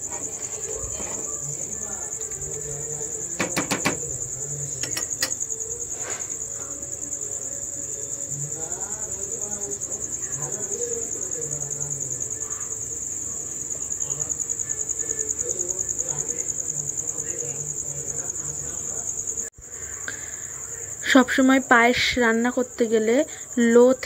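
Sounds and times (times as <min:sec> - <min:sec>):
insect trilling: 0:00.0 - 0:24.0.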